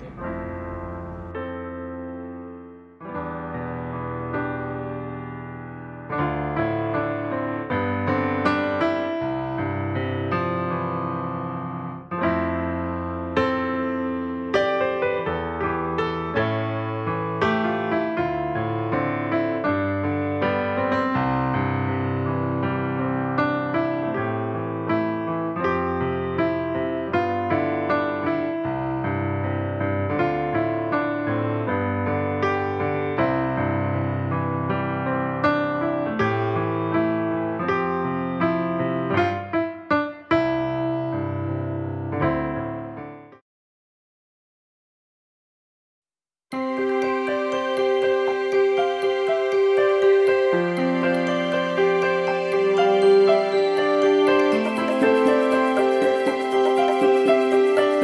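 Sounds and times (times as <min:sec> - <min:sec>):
gentle piano music: 0:00.0 - 0:40.1, 0:46.5 - 0:58.0.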